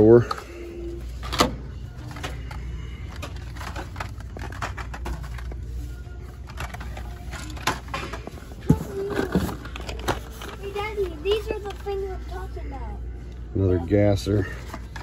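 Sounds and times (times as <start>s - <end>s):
toy car packages clicking and rattling: 0.0s - 12.4s, 14.2s - 15.0s.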